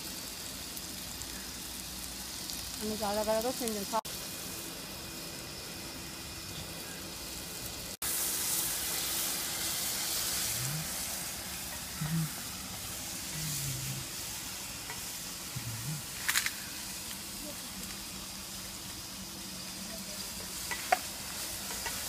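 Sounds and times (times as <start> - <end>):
tomato sizzling in a pan: 0.0 - 22.0.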